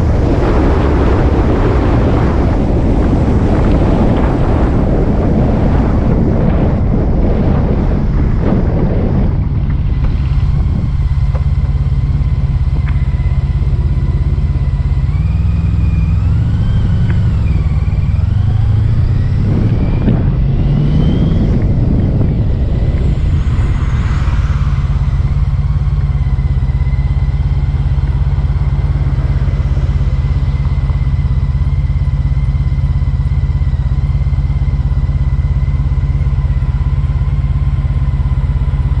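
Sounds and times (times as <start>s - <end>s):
wavering high whine: 0.0s - 38.4s
motorcycle engine running: 0.0s - 39.0s
wind noise on microphone: 0.0s - 39.0s.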